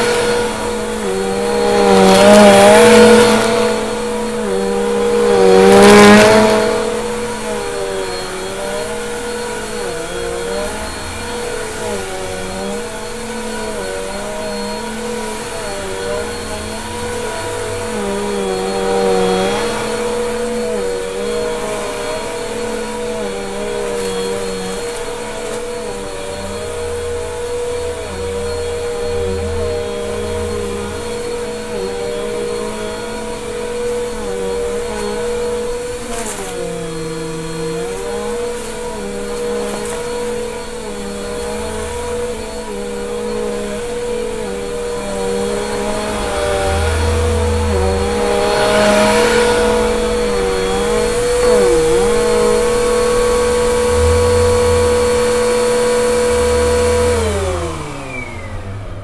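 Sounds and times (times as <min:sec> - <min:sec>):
vacuum cleaner motor whine: 0:00.0 - 0:59.0
vacuum motor winding down: 0:00.0 - 0:59.0.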